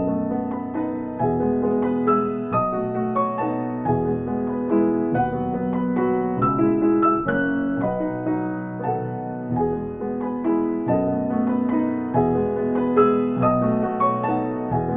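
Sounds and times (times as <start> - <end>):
piano playing: 0.0 - 14.9.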